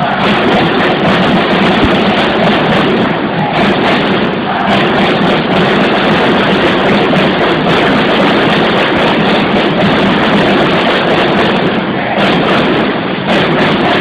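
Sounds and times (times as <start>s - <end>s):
cheer music: 0.0s - 14.0s
large crowd noise: 0.0s - 14.0s.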